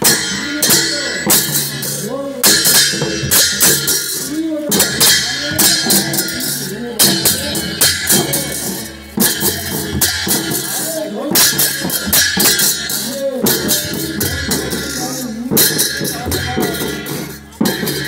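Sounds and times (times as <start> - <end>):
drums beating: 0.0 - 18.0
hand cymbals: 0.0 - 18.0.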